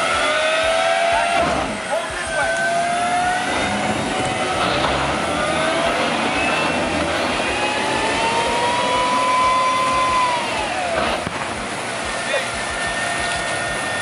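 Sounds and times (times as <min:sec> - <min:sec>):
tracked vehicle engine straining: 0:00.0 - 0:14.0.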